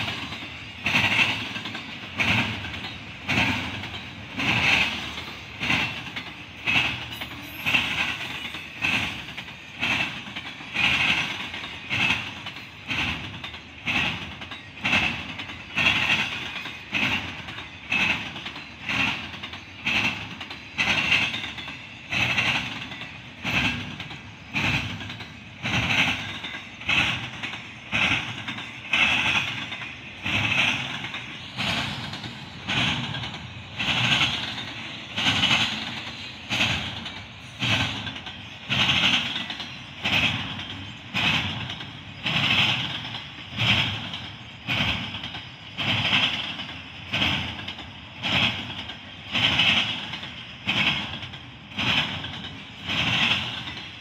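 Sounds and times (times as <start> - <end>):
continuous train rumble: 0.0 - 54.0
train wheels clacking on track: 0.0 - 54.0.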